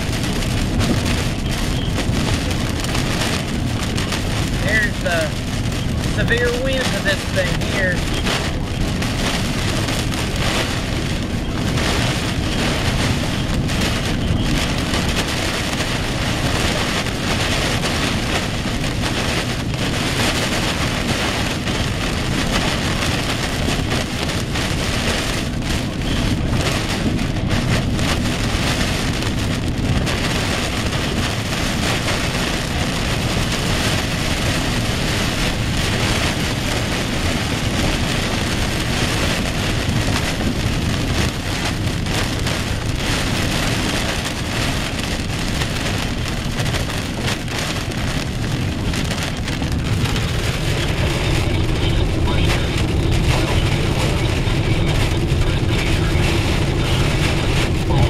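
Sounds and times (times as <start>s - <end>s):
heavy rain on car roof: 0.0s - 58.0s.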